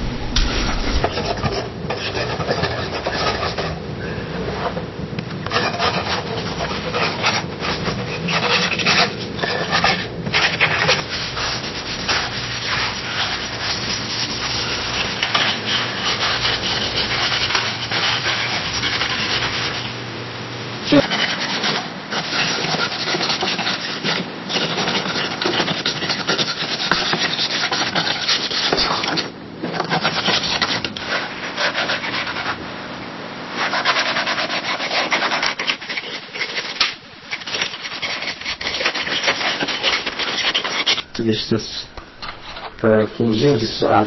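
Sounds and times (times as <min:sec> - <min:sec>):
pencil scratching on paper: 0:00.3 - 0:03.8, 0:05.5 - 0:19.9, 0:20.9 - 0:32.6, 0:33.6 - 0:41.1.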